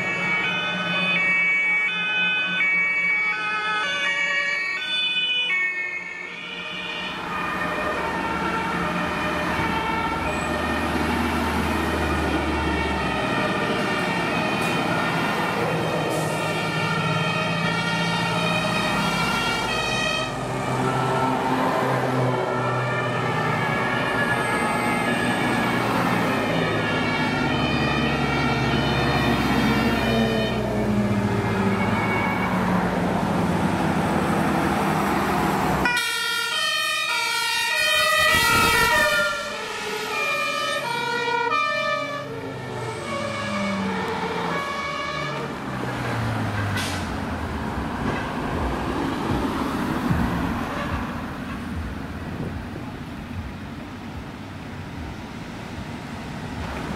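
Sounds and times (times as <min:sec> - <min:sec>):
two-tone fire engine sirens: 0:00.0 - 0:51.9
truck engines passing: 0:00.0 - 0:56.9.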